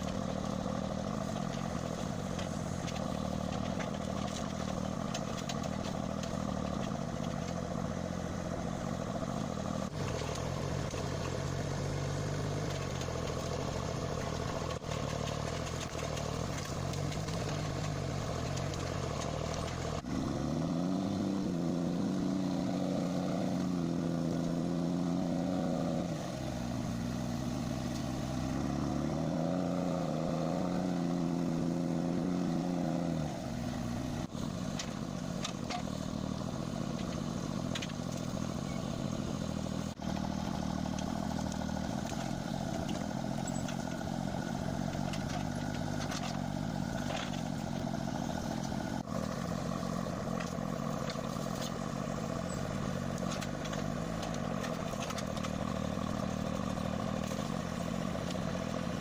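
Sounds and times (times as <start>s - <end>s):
heavy machine engine revving: 0.0s - 59.0s.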